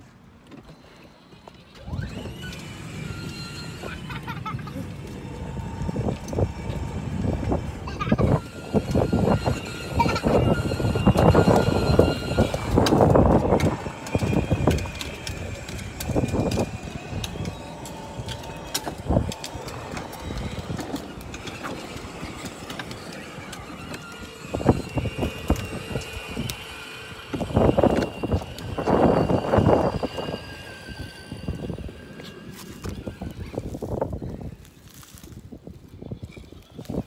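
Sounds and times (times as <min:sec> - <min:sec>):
plastic wheels rolling on concrete: 0:00.1 - 0:37.0
toy car motor whir: 0:00.7 - 0:37.0.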